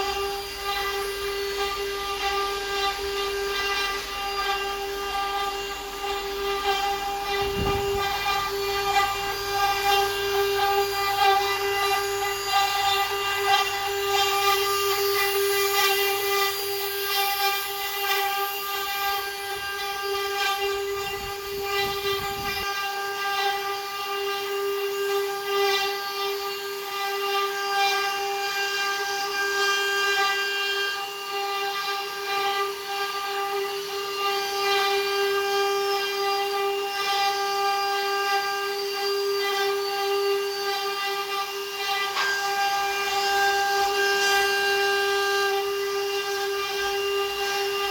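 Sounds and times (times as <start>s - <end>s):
router spindle high-pitched whine: 0.0s - 47.9s.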